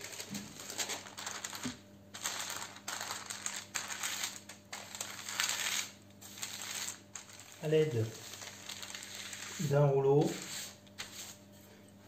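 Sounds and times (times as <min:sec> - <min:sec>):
parchment paper rustling: 0:00.0 - 0:11.6.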